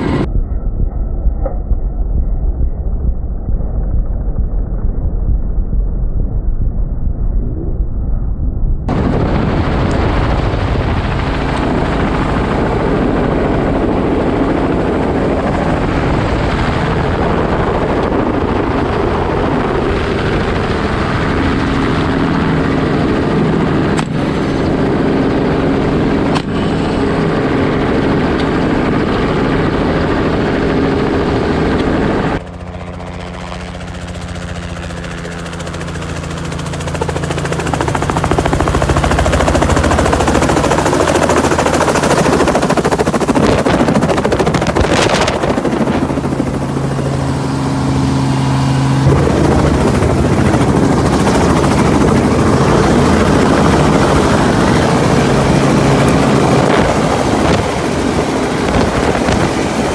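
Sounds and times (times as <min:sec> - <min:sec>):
helicopter engine and rotor: 0:00.0 - 0:05.2, 0:08.9 - 0:59.9
helicopter flying in low: 0:00.0 - 0:59.9
wind noise: 0:00.0 - 0:59.9.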